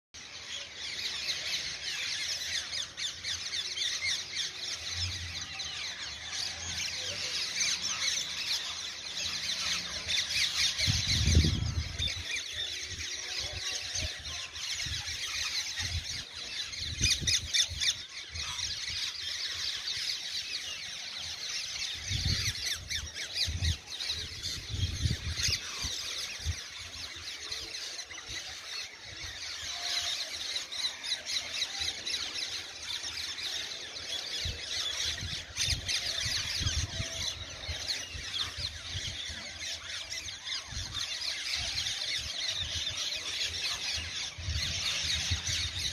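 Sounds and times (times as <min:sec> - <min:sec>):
parakeets screeching: 0:00.2 - 0:45.9.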